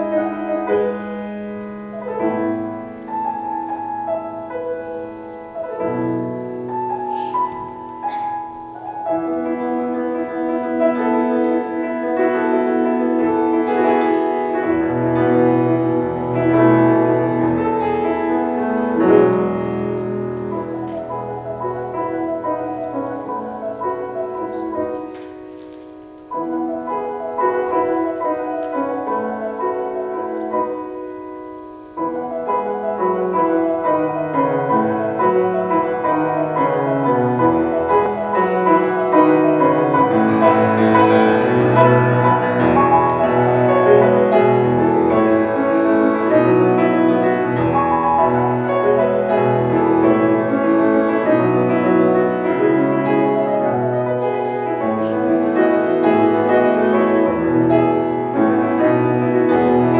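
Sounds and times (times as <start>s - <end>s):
solo piano melody: 0.0s - 59.9s.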